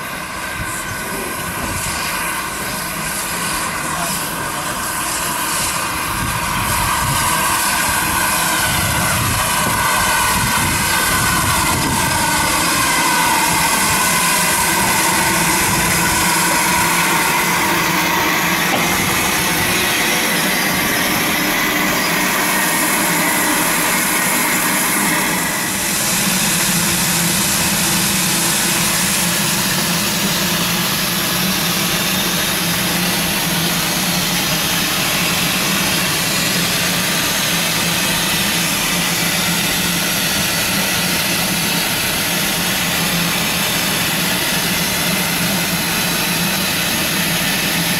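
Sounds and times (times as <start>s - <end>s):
steam locomotive hissing: 0.0s - 47.9s.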